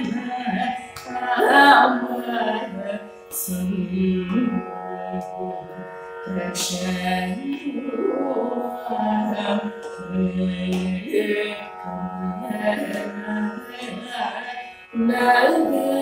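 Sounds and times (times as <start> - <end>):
woman singing solo: 0.0 - 5.6, 6.3 - 16.0.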